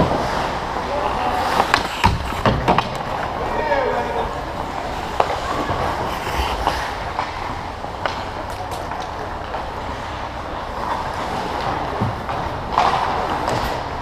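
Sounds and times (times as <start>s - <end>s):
crowd noise: 0.0s - 14.0s
skates scraping ice: 0.0s - 14.0s.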